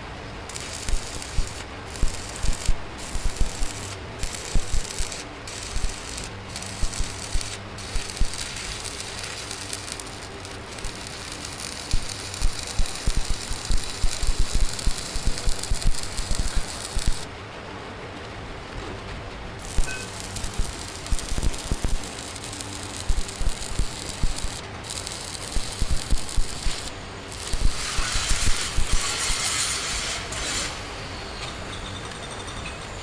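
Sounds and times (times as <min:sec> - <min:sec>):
arc welding crackling: 0:00.0 - 0:17.3, 0:19.5 - 0:31.0.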